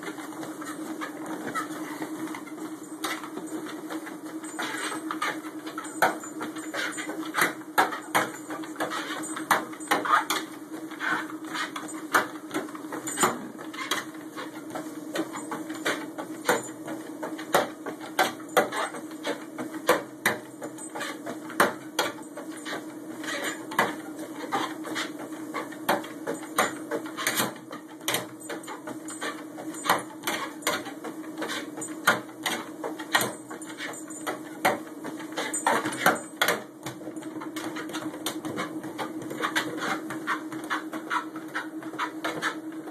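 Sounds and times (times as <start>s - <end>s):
treadmill motor hum: 0.0s - 42.9s.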